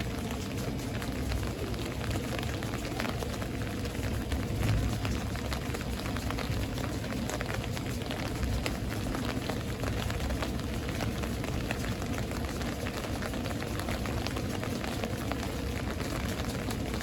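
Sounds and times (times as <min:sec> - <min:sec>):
raindrops ticking: 0:00.0 - 0:17.0
steady rain: 0:00.0 - 0:17.0.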